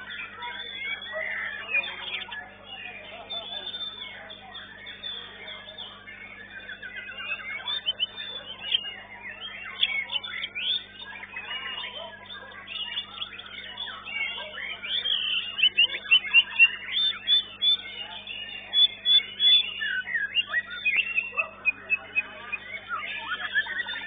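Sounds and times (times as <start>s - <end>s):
bird singing: 0.0s - 24.0s.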